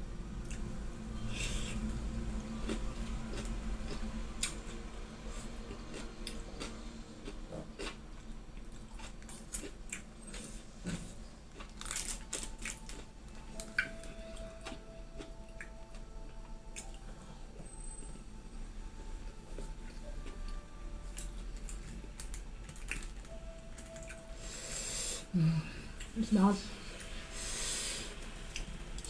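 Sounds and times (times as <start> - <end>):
person chewing and crunching food: 0.4 - 17.8, 19.1 - 26.2.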